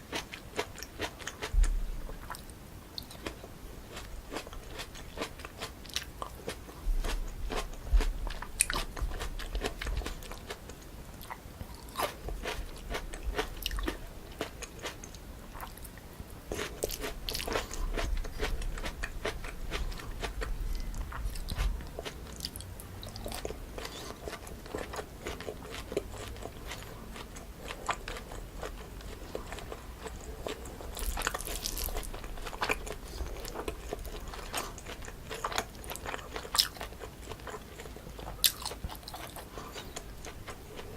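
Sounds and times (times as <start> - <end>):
person chewing noodles: 0.0 - 1.5, 2.1 - 40.9.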